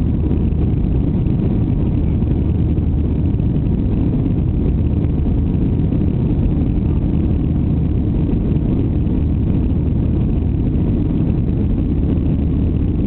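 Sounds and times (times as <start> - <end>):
jet engines rumbling on takeoff: 0.0 - 13.0.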